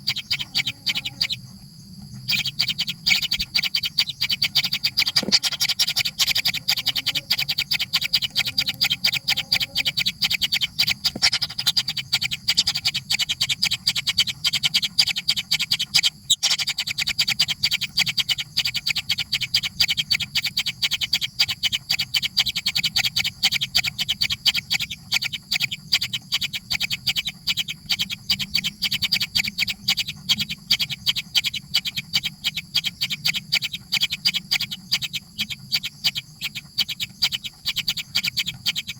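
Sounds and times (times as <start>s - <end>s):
baby birds cheeping: 0.0s - 38.9s.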